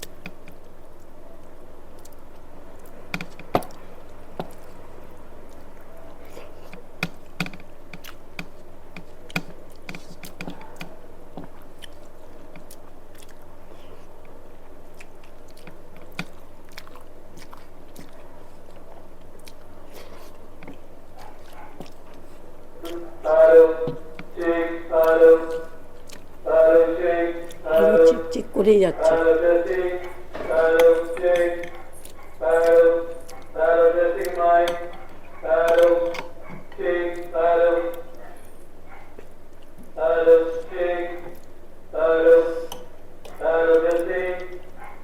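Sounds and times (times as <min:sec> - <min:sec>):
person chewing food: 0:00.0 - 0:28.4, 0:29.0 - 0:40.0, 0:40.6 - 0:41.9, 0:42.6 - 0:45.0
low background hum: 0:00.0 - 0:45.0.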